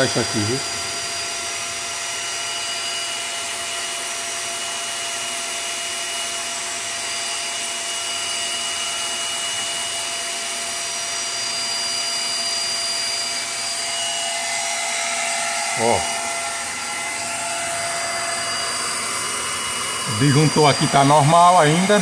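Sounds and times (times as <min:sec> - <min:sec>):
cooling fan whirring: 0:00.0 - 0:22.0
power inverter high-pitched whine: 0:00.0 - 0:22.0.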